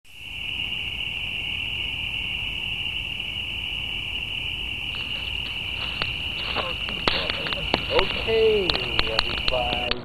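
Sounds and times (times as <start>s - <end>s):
night insects chirring: 0.1s - 10.0s.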